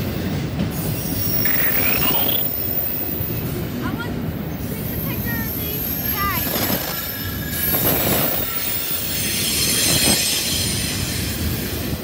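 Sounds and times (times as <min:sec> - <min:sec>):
train wheels rumbling on rails: 0:00.0 - 0:12.0
high wheel squeal: 0:00.8 - 0:03.5, 0:04.8 - 0:12.0.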